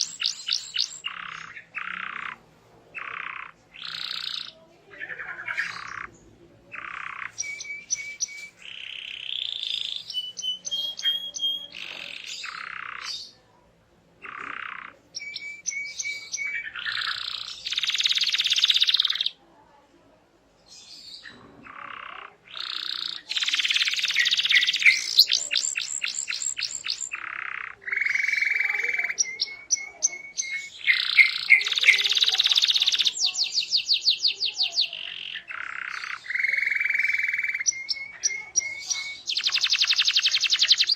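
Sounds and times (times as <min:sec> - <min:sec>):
canary singing: 0:00.0 - 0:13.5, 0:14.1 - 0:19.5, 0:20.6 - 0:40.9.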